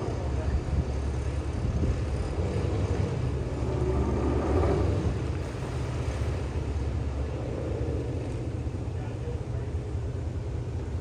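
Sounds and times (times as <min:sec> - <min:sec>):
motor running with low rumble: 0:00.0 - 0:11.0.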